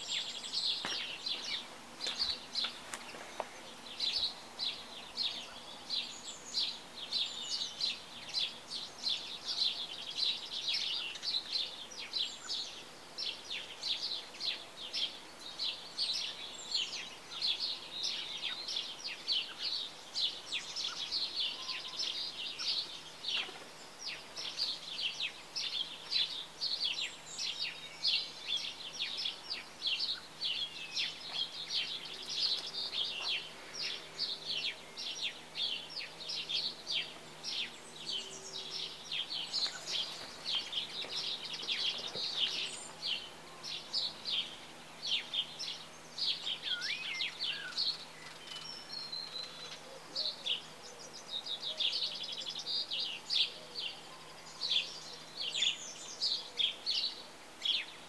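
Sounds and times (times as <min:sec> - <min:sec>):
faint low hum: 0:00.0 - 0:58.0
small birds chirping: 0:00.0 - 0:58.0.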